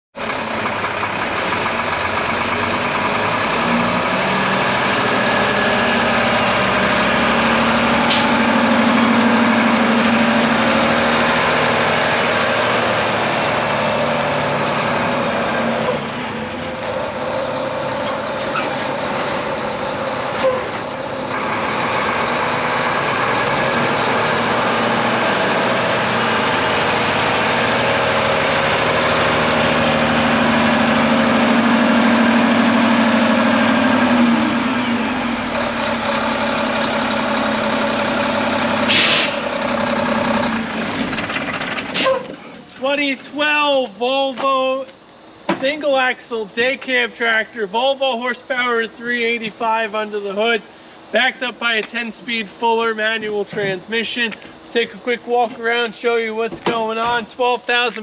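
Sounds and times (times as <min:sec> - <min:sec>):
diesel truck engine running: 0:00.2 - 0:58.0.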